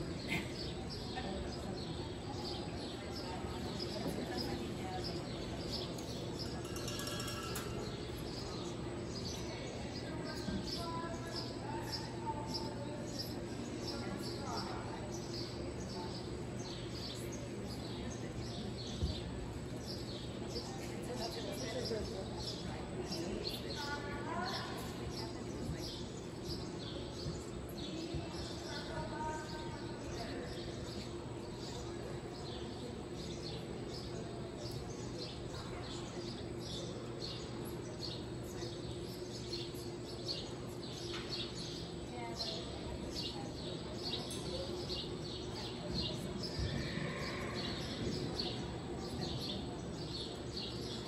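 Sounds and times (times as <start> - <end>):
small birds chirping: 0.1 - 51.0.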